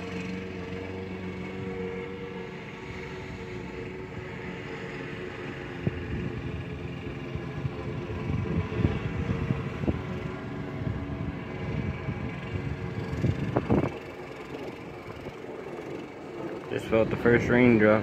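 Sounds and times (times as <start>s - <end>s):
steady motor hum: 0.0s - 18.0s
wind rumbling on microphone: 0.0s - 18.0s.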